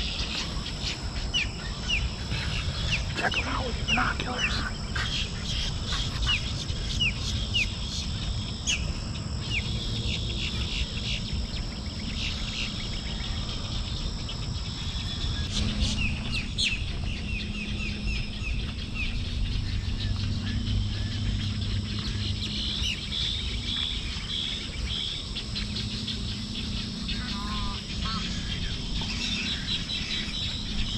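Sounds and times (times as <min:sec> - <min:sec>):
birds chirping: 0:00.0 - 0:30.9
high insect drone: 0:00.0 - 0:30.9.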